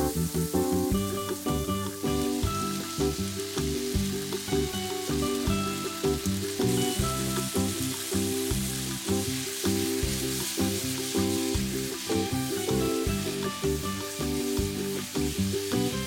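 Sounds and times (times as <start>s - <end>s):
background music: 0.0s - 16.0s
spaghetti sizzling in a hot pan: 0.0s - 16.0s.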